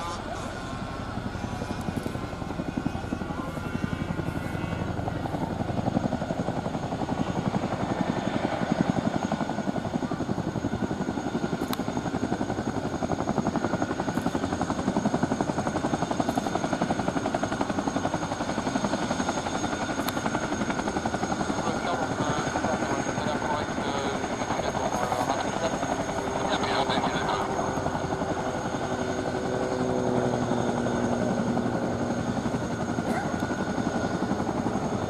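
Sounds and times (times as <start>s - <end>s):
helicopter rotor blades beating: 0.0s - 35.0s
turbine whine: 0.0s - 35.0s.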